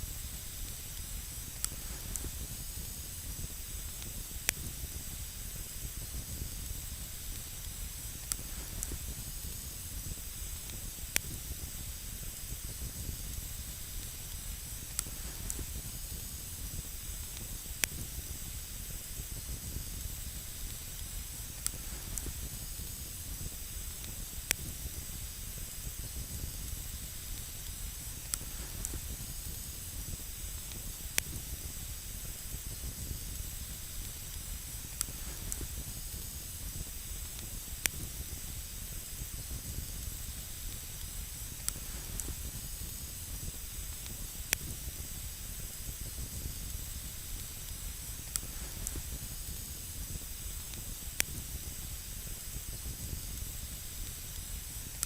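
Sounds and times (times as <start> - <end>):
campfire hissing: 0.0 - 55.0
fire crackling pops: 0.0 - 55.0.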